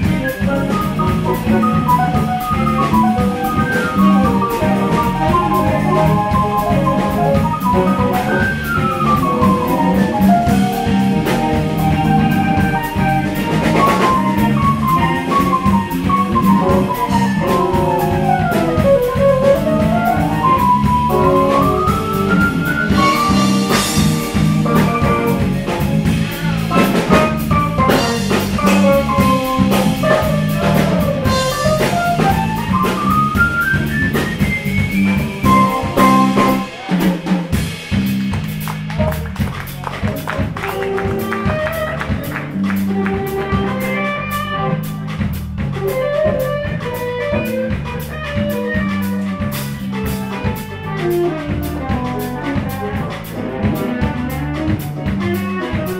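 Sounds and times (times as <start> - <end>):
fast lead melody: 0.0 - 55.9
jazz fusion band playing: 0.0 - 55.9.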